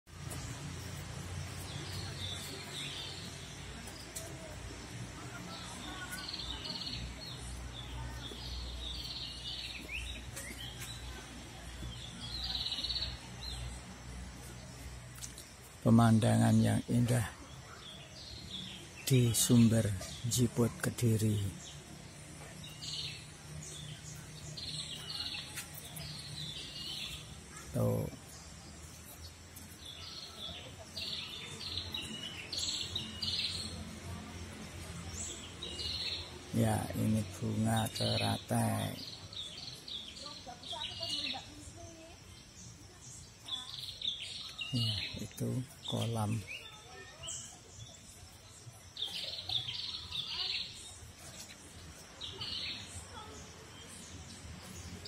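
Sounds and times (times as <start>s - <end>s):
small birds trilling: 0.1s - 55.0s.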